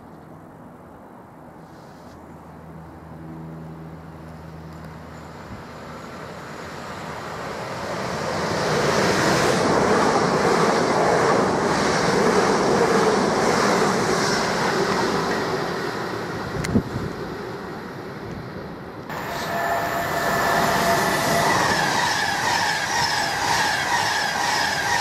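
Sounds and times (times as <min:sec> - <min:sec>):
train passing at speed: 0:02.4 - 0:25.0.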